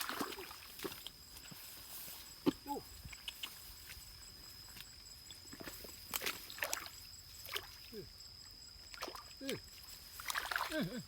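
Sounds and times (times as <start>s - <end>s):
water sloshing and splashing: 0.0s - 7.9s, 8.8s - 11.0s.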